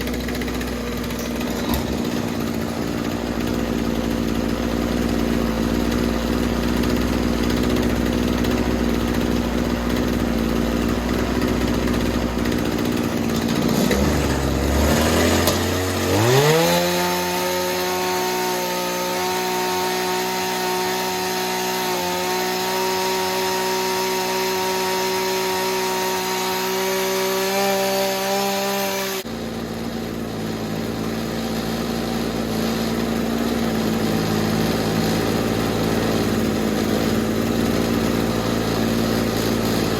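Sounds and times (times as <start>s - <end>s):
hedge trimmer engine revving: 0.0s - 39.9s.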